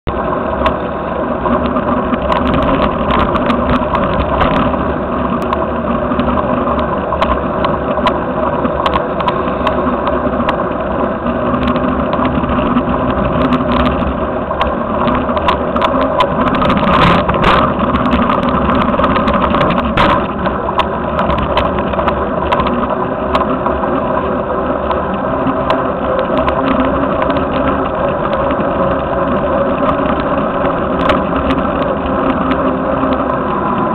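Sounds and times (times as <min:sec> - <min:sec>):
wind and road rumble: 0:00.0 - 0:33.9.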